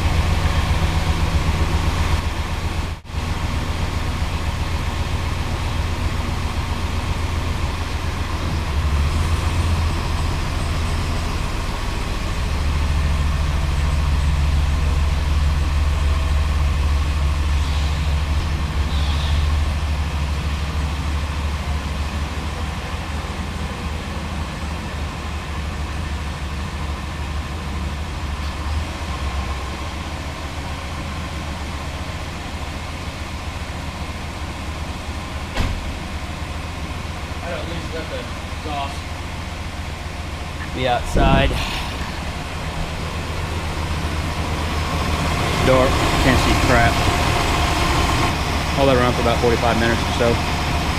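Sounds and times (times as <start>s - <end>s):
vee-eight engine idling: 0.0s - 50.9s.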